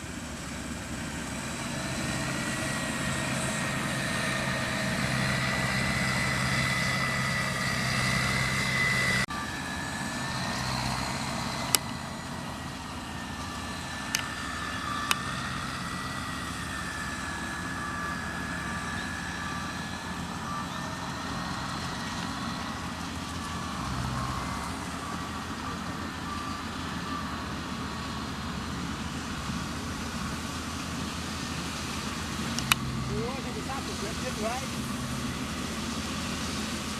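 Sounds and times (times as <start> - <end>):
diesel engine running: 0.0 - 36.9
high steady whine: 0.0 - 36.9.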